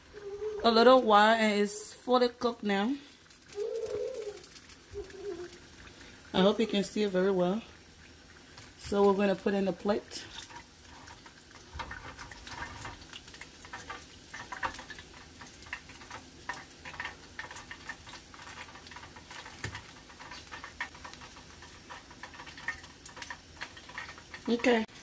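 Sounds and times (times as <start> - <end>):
fish frying in hot oil: 1.2 - 25.0.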